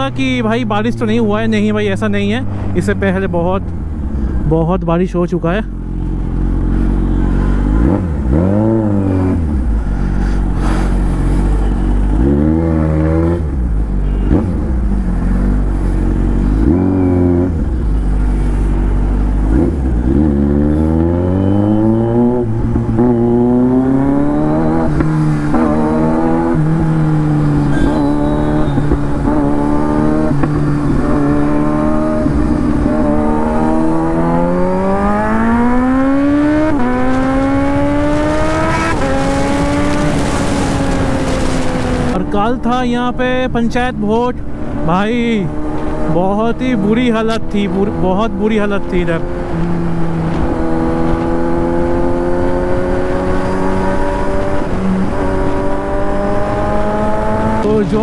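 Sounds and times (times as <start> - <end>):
motorcycle engine revving: 5.7 - 58.0.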